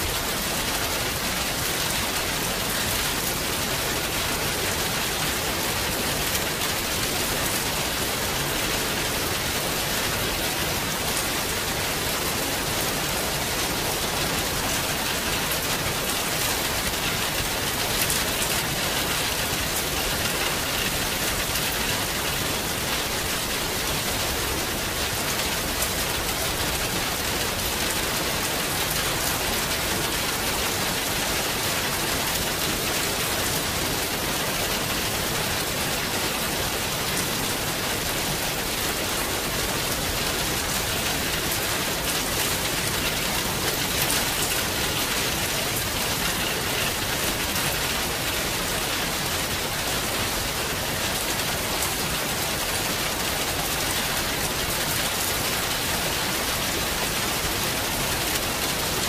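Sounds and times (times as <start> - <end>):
rain drops ticking: 0.0 - 59.0
steady rain hiss: 0.0 - 59.0.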